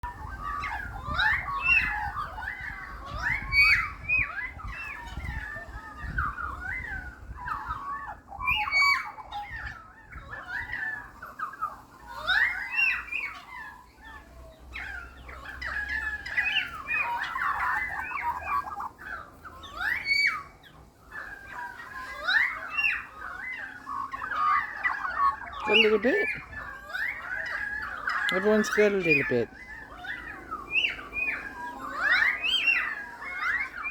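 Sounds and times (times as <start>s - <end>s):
birds calling and chattering: 0.0s - 33.9s.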